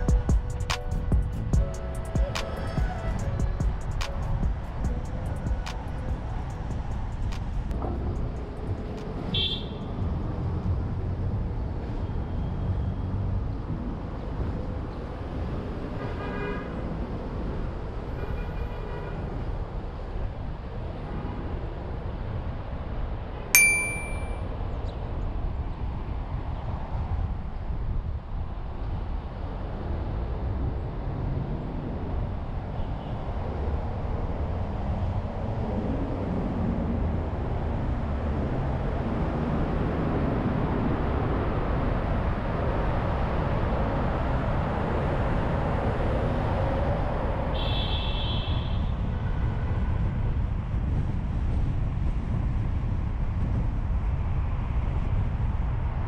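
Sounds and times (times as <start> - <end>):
road traffic noise: 0.0 - 22.6, 27.9 - 56.0.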